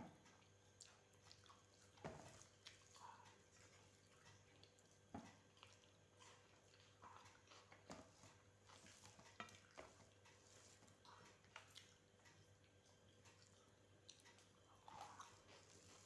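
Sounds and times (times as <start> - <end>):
low steady hum: 0.0 - 16.0
soft chewing: 0.0 - 16.0.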